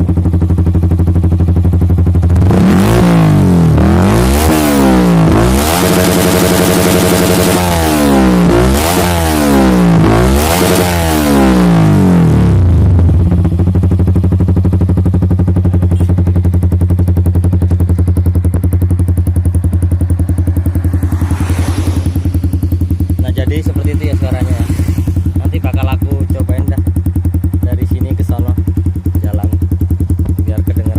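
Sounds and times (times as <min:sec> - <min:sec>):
motorcycle engine revving and idling: 0:00.0 - 0:30.9.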